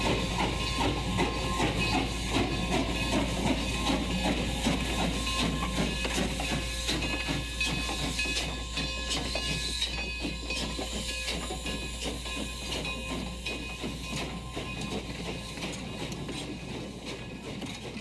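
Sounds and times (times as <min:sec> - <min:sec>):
model train running: 0:00.0 - 0:18.0.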